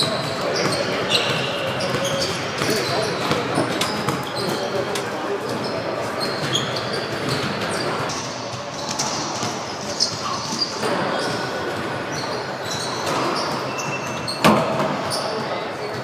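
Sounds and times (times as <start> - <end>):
sneakers squeaking on hardwood: 0.0 - 16.0.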